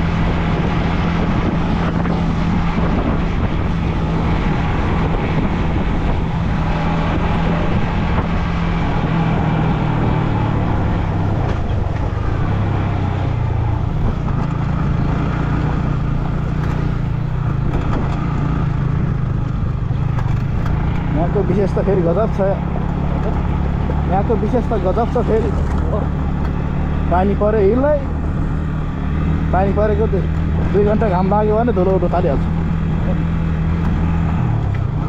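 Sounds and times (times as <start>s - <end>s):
motorcycle engine running: 0.0s - 35.0s
wind and road noise: 0.0s - 35.0s.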